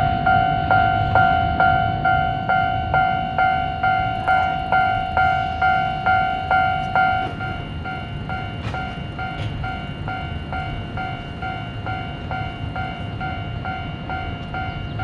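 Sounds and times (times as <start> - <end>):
level crossing alarm dinging: 0.0 - 15.0.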